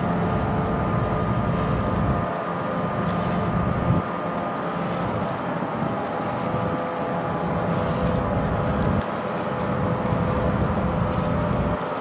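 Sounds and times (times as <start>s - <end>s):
ship machinery hum: 0.0s - 12.0s.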